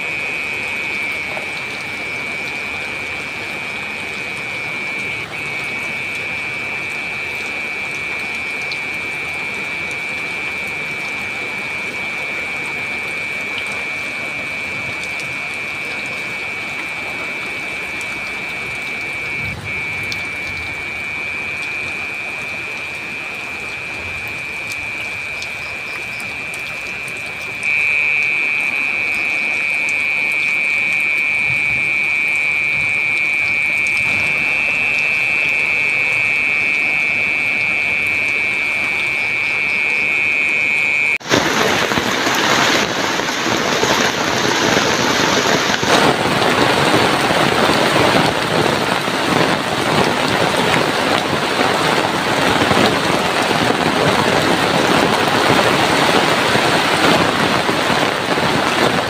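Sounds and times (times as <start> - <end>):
heavy rain falling: 0.0 - 59.0
high-pitched hum: 0.0 - 59.0.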